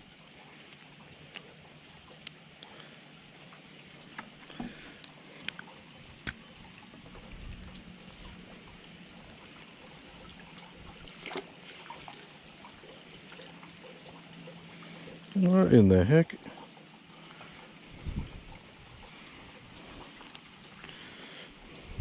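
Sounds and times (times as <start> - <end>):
light rain on water and wood: 0.0 - 21.9.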